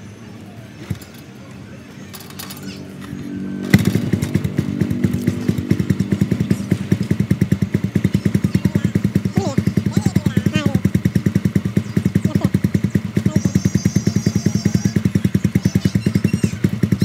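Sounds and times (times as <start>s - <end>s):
motorcycle engine thumping: 0.8s - 1.4s, 2.1s - 17.0s.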